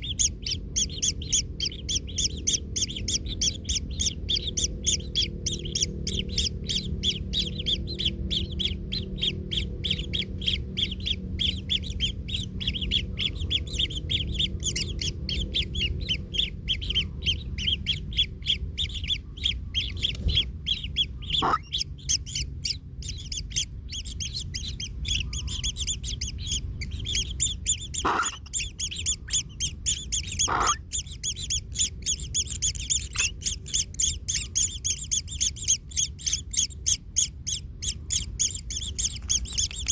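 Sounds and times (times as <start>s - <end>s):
louder lower bird calls: 0.0s - 39.9s
nestlings high chirps: 0.0s - 39.9s.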